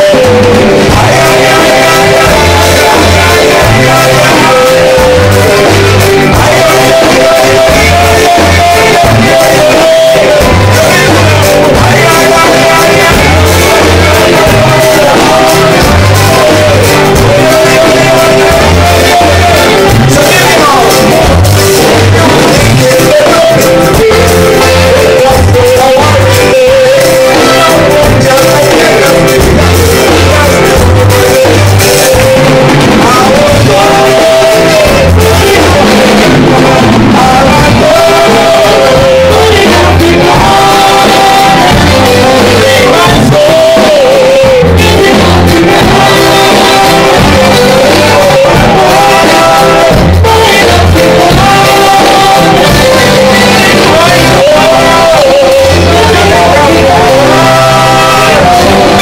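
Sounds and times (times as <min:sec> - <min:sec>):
drum kit: 0:00.0 - 0:59.0
electric bass: 0:00.0 - 0:59.0
person singing: 0:00.0 - 0:59.0.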